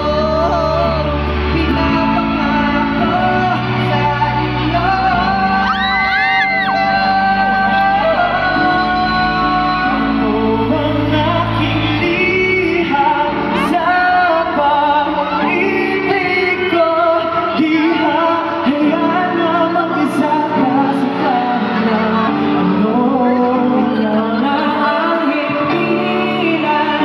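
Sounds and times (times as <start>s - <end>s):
live pop song with singing: 0.0s - 27.0s.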